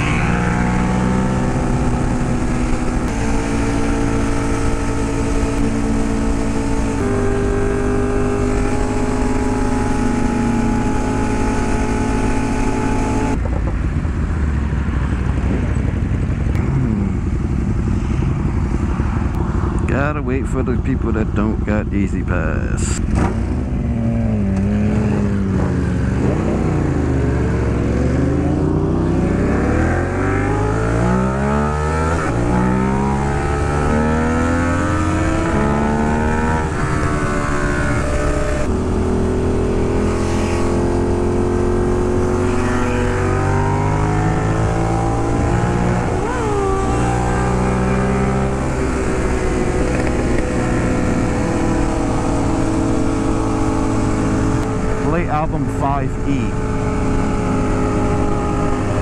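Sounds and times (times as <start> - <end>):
motorcycle engine accelerating: 0.0 - 21.7, 22.8 - 59.0.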